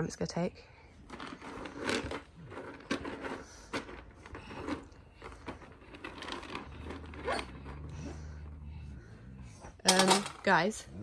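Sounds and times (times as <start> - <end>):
dry kibble rustling and clattering: 0.9 - 8.7, 9.6 - 10.8.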